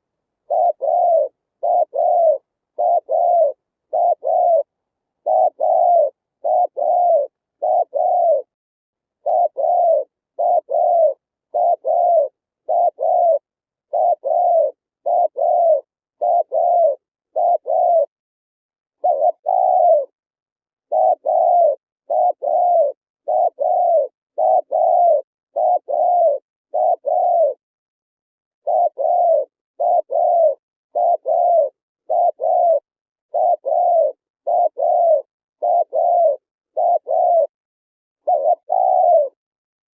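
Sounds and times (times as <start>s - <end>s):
dove cooing: 0.0s - 8.6s, 9.2s - 18.1s, 19.0s - 20.2s, 20.8s - 27.6s, 28.6s - 37.6s, 38.2s - 39.4s.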